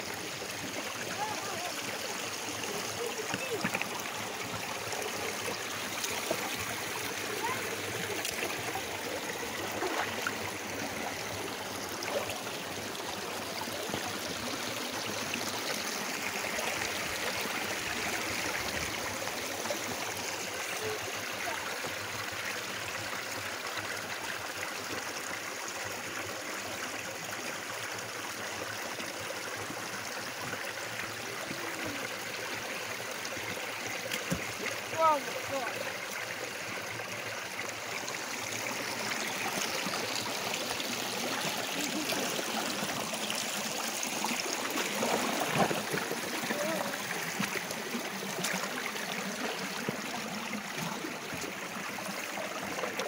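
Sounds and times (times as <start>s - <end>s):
stream running over rocks: 0.0s - 53.0s.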